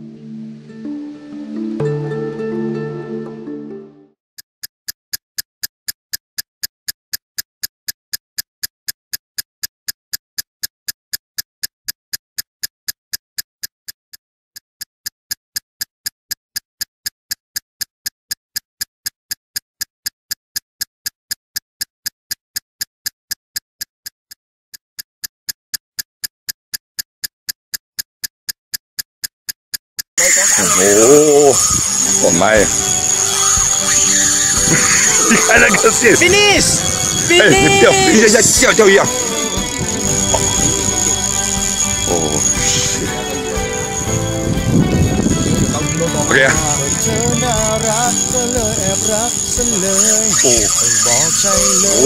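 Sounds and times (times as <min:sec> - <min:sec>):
steady sharp ticking: 0:04.4 - 0:52.0.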